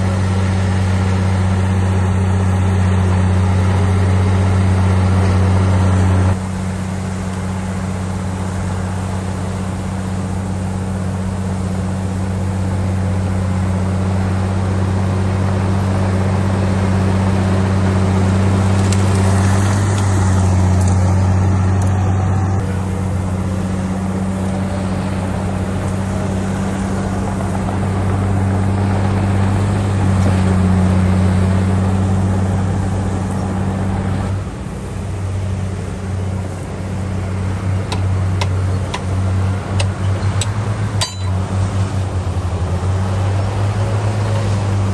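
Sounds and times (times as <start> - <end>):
heavy diesel machinery droning: 0.0 - 44.9.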